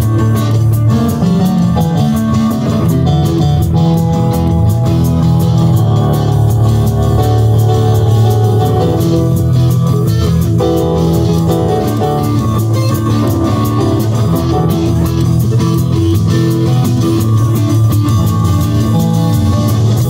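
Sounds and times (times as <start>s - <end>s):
cymbal tapping a steady beat: 0.0s - 20.0s
drum kit: 0.0s - 20.0s
electric guitars: 0.0s - 20.0s.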